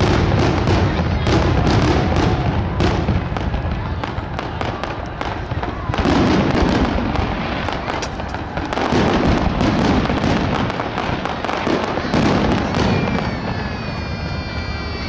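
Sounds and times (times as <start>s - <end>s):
fireworks crackling bursts: 0.0s - 15.0s
high whistling fireworks: 0.0s - 15.0s.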